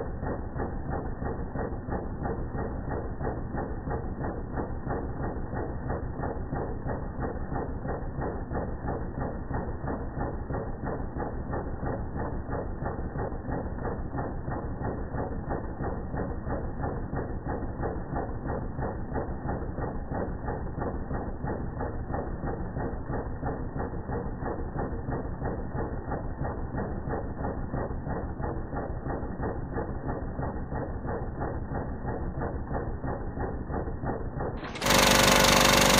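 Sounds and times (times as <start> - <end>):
film projector clattering: 0.3 - 35.9.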